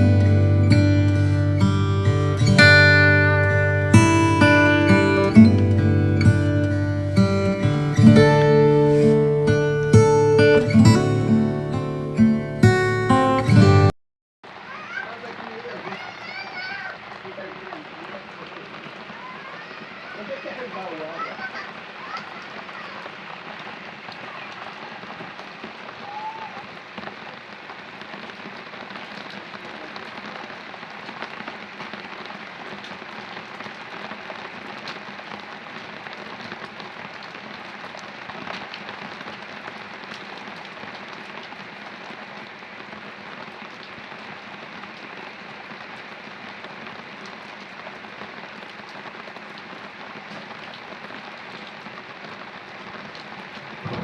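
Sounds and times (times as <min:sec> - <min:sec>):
heavy rain falling: 0:00.0 - 0:54.0
raindrops ticking: 0:00.0 - 0:54.0.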